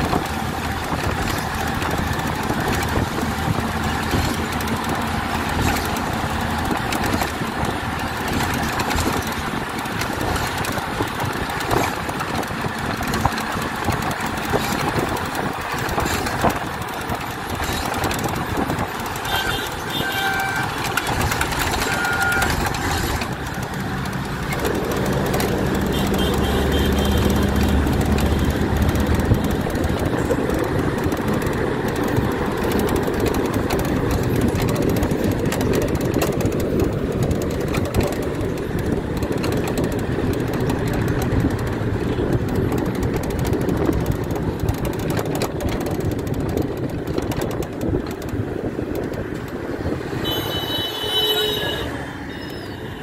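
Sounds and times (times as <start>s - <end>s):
low engine drone: 0.0s - 48.7s
road noise inside bus: 0.0s - 53.0s.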